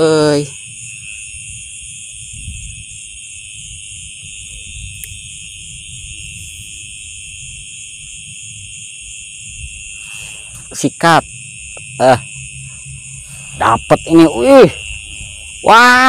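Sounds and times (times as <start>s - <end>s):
crickets and insects shrilling: 0.0s - 16.0s.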